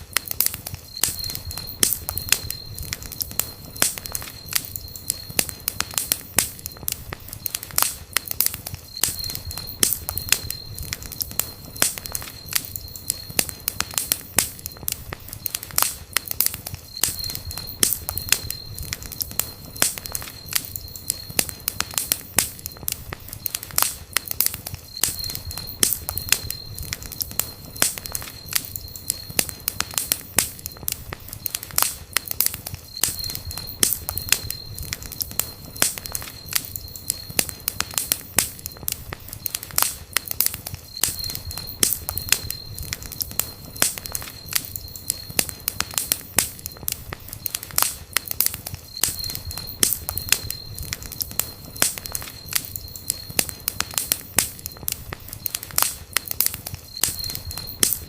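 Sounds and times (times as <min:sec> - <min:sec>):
campfire crackling and popping: 0:00.0 - 0:58.0
faint high whistle: 0:00.4 - 0:58.0.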